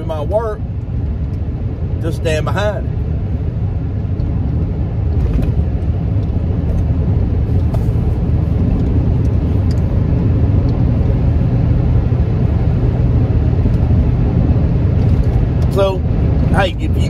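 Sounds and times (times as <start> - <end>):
road rumble inside truck cab: 0.0 - 17.0.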